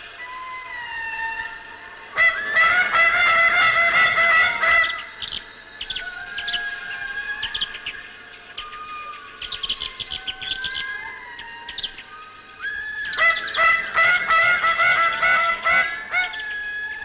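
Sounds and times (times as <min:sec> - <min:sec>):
lemurs wailing calls: 0:00.0 - 0:17.0.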